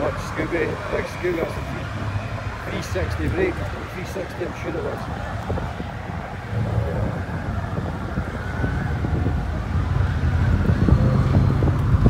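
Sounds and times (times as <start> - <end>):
car engines in traffic: 0.0 - 12.0
wind rumbling on microphone: 0.0 - 12.0.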